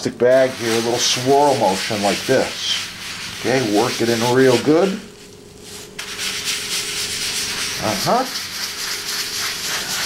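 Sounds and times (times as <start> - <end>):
plastic bag rubbing on wood: 0.2 - 10.0.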